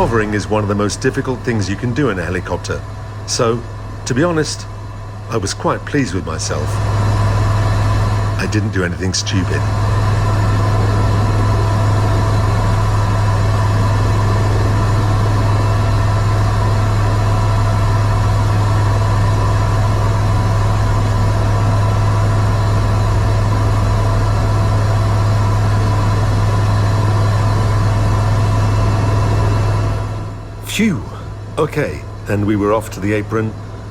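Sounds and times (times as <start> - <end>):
helicopter hovering: 0.0 - 33.9.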